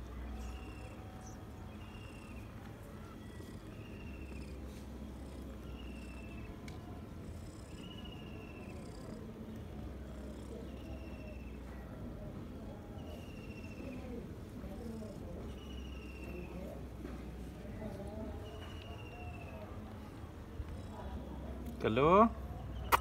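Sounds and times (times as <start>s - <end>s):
cat purring: 0.0s - 21.8s.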